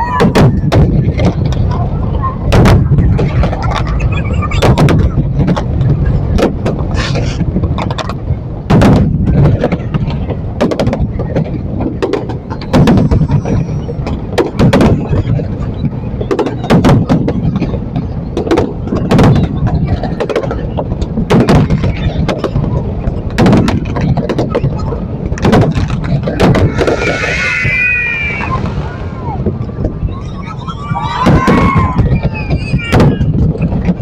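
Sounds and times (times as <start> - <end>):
fireworks booming: 0.0 - 34.0
low rumble of fireworks: 0.0 - 34.0.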